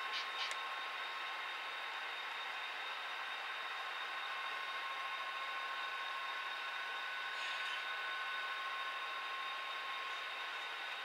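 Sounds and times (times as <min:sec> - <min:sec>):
model train whirring: 0:00.0 - 0:11.0.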